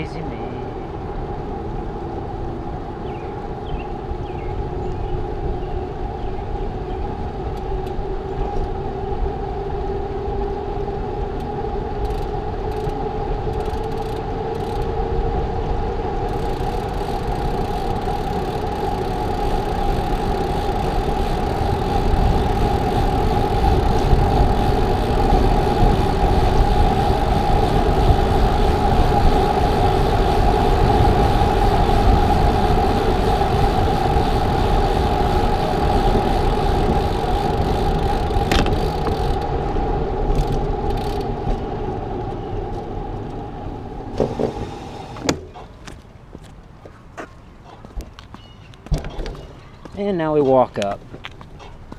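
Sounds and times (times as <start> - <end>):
steady hum: 0.0 - 45.6
tyre and wind noise: 0.0 - 51.9.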